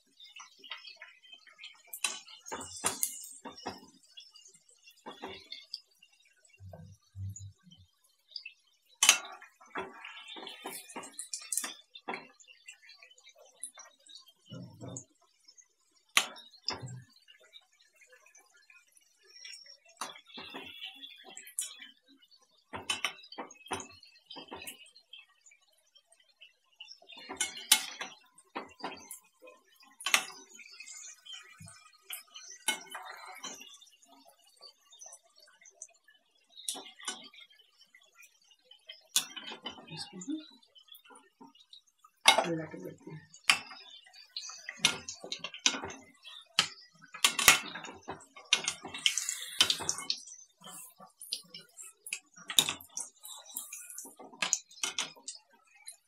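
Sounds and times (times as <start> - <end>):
dough sizzling in hot oil: 0.0 - 56.0.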